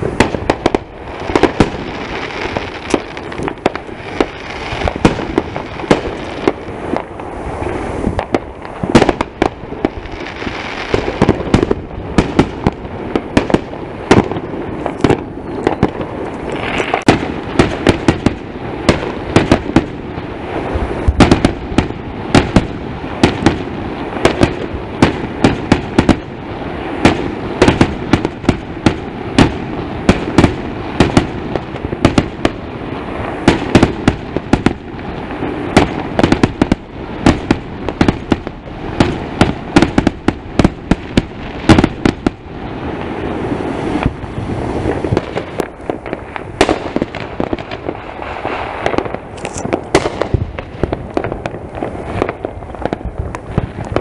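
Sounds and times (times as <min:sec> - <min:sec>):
fireworks bangs and pops: 0:00.0 - 0:54.0.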